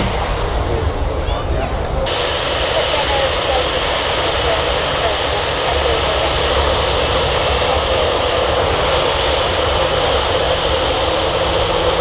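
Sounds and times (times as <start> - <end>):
jet engines rumbling with whine: 0.0 - 12.0.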